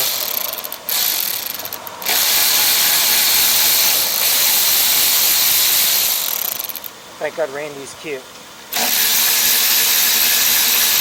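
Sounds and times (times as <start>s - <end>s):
power tool running: 0.0s - 6.9s, 8.7s - 11.0s.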